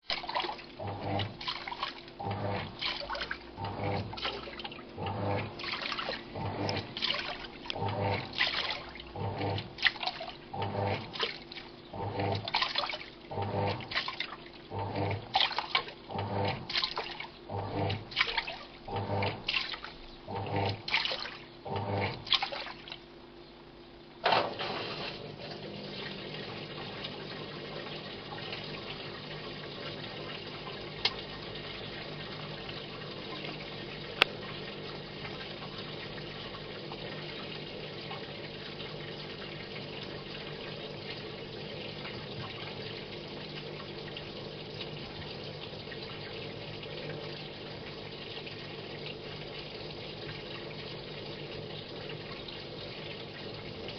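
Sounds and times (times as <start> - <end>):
washing machine agitating: 0.0 - 23.3, 24.2 - 53.9.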